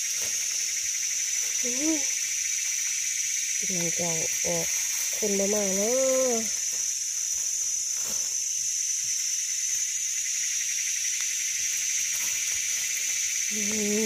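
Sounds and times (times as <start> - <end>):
forest insects buzzing: 0.0 - 14.0.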